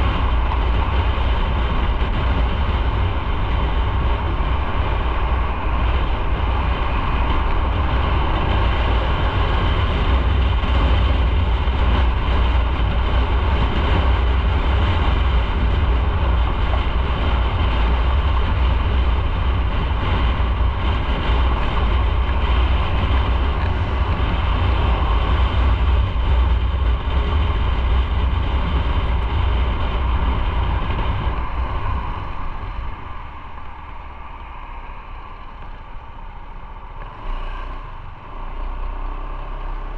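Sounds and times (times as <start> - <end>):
motorcycle engine at speed: 0.0 - 39.9
road noise: 0.0 - 39.9
wind rush on microphone: 0.0 - 39.9.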